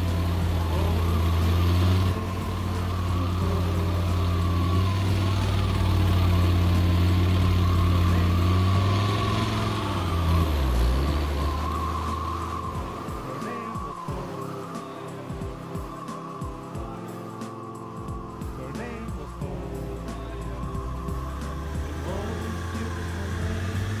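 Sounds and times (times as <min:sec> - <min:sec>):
engine idling: 0:00.0 - 0:17.3, 0:18.0 - 0:24.0.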